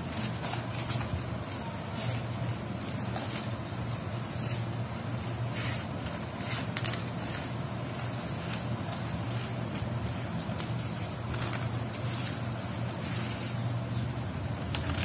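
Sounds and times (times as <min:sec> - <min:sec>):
scissors snipping paper: 0:00.0 - 0:13.4
paper rustling: 0:00.0 - 0:15.0.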